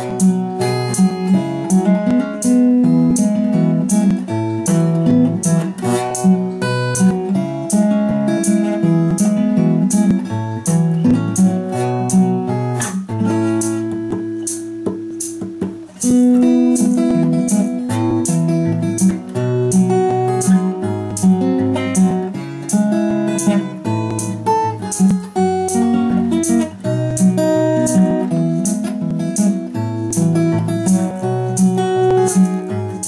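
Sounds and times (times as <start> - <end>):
acoustic guitar fingerpicking: 0.0 - 33.0.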